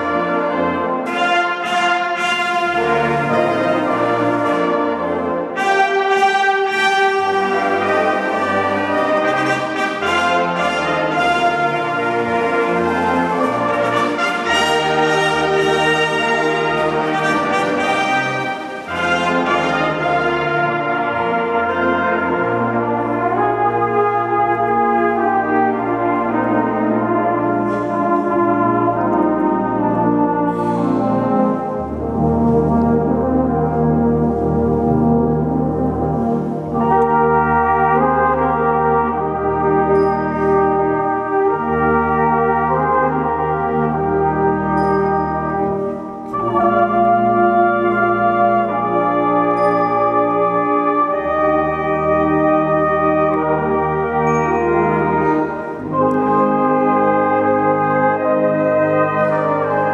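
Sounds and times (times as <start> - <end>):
brass and saxophone band playing: 0.0 - 59.9.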